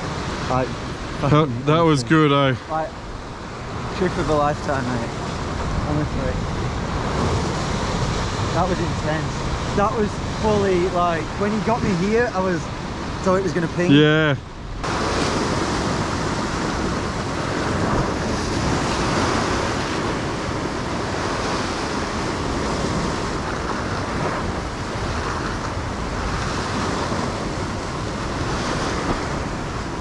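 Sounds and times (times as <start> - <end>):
waves breaking on rock: 0.0 - 30.0.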